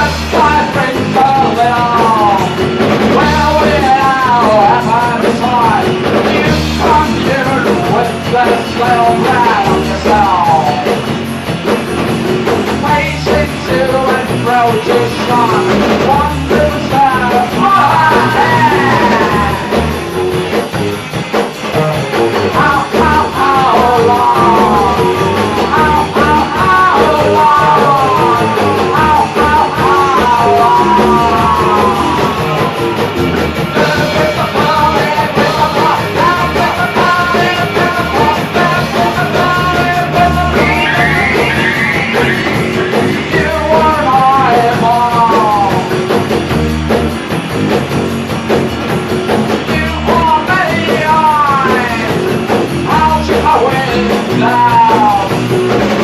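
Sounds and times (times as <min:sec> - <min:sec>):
rock band music: 0:00.0 - 0:56.0.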